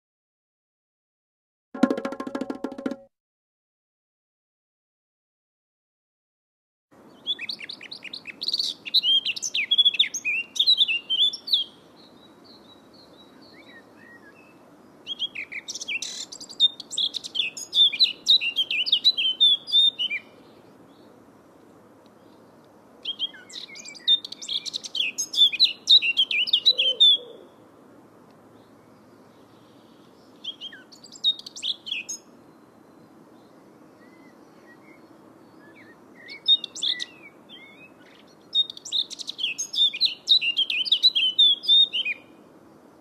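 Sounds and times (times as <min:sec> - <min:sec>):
faint low background noise: 0:06.9 - 0:43.0
songbird singing: 0:07.0 - 0:43.0.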